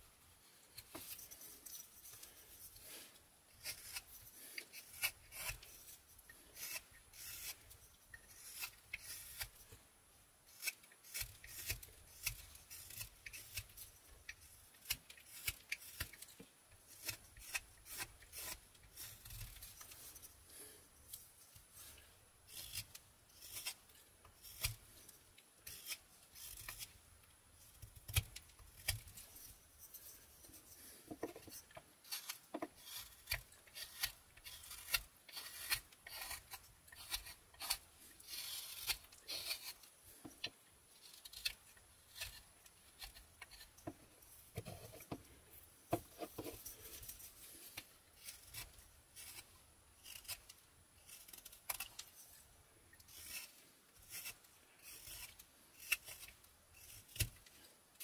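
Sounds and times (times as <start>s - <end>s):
knife carving wood shavings: 0.5s - 9.8s, 10.4s - 58.0s.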